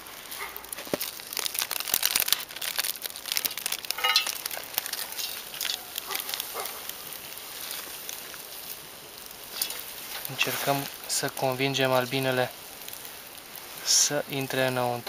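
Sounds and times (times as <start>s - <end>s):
plastic film crinkling: 0.0s - 15.0s.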